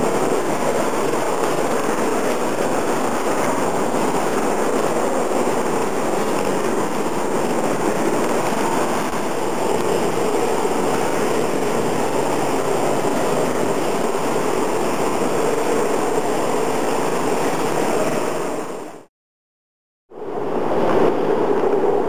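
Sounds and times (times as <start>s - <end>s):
dense rumbling noise: 0.0s - 19.1s, 20.1s - 22.0s.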